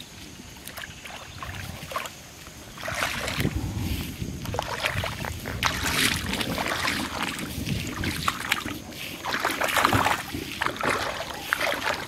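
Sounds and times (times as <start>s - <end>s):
water splashing from wading: 0.6s - 12.0s.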